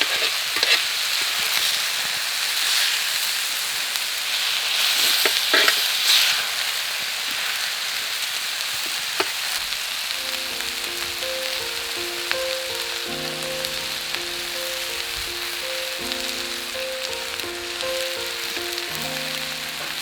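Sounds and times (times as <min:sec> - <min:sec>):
noodles sizzling on griddle: 0:00.0 - 0:20.0.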